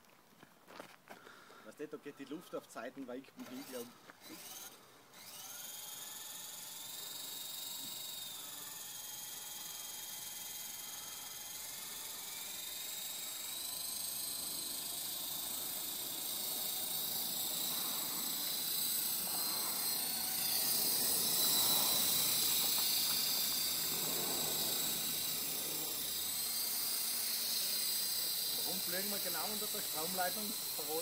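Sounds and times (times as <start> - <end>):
model helicopter motor whine: 3.4 - 31.0.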